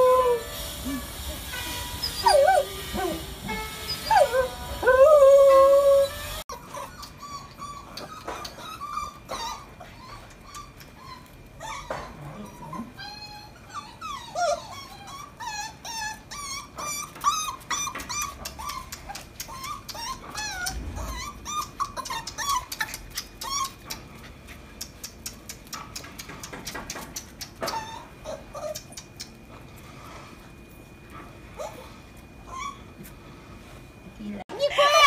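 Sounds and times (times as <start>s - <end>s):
puppy whimpering and whining: 0.0s - 25.7s, 26.9s - 29.5s, 31.5s - 33.2s.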